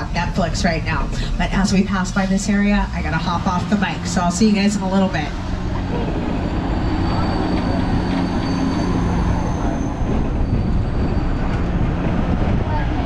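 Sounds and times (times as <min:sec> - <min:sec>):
tram rolling rumble: 0:00.0 - 0:13.0.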